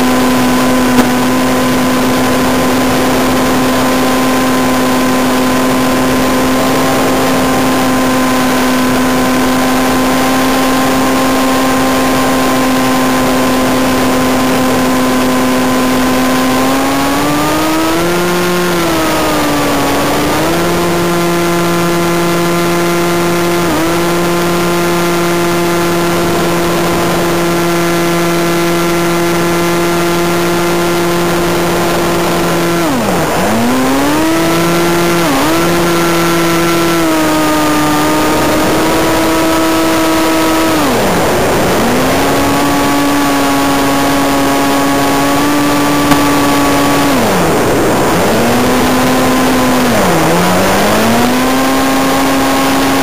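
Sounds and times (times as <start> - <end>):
electric motor and propeller whine: 0.0 - 53.0.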